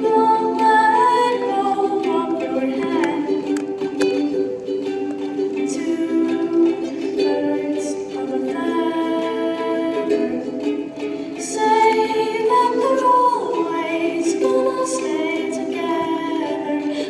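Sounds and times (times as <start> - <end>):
ukulele: 0.0 - 17.0
woman singing: 0.0 - 17.0.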